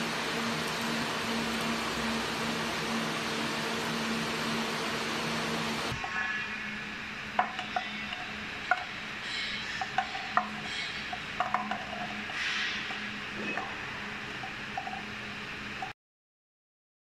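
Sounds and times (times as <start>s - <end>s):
cooling fans humming: 0.0s - 16.0s.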